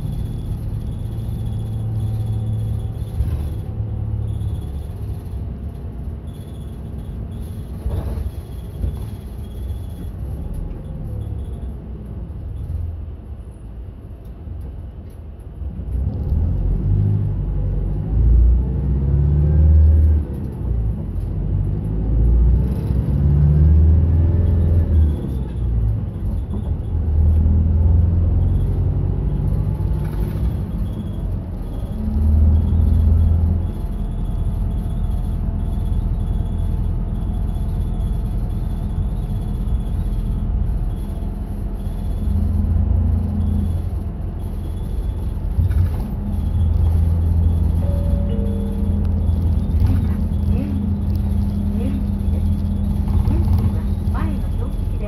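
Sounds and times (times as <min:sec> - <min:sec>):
bus engine accelerating: 0:00.0 - 0:55.0.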